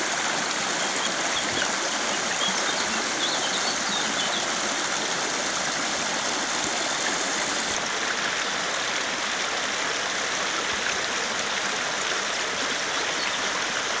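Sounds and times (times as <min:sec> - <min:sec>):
river babbling over stones: 0:00.0 - 0:14.0.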